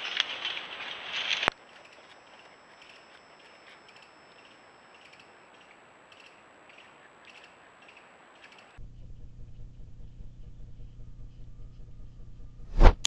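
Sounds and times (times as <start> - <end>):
thin high whine: 1.2 - 13.0.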